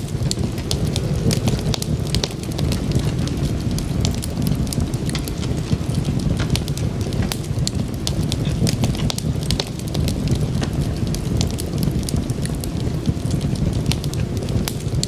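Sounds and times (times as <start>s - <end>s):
sharp pops and snaps: 0.0s - 15.0s
wood fire crackling: 0.0s - 15.0s.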